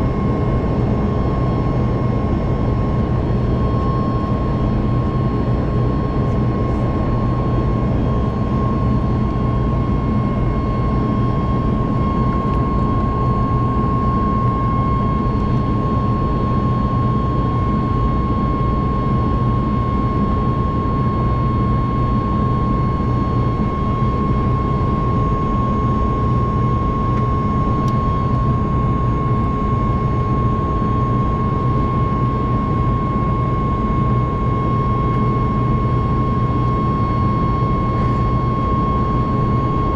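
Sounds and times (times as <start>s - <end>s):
jet engine cabin rumble: 0.0s - 39.9s
steady engine whine: 0.0s - 39.9s.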